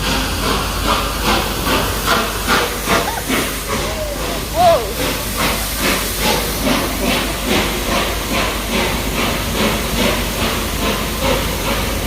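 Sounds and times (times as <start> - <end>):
steam hissing: 0.0 - 12.0
steam locomotive chuffing: 0.0 - 12.0.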